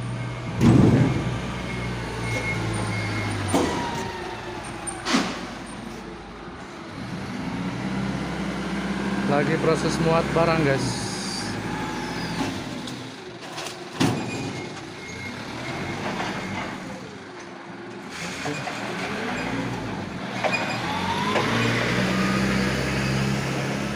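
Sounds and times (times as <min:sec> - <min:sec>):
truck engine running: 0:00.0 - 0:23.9.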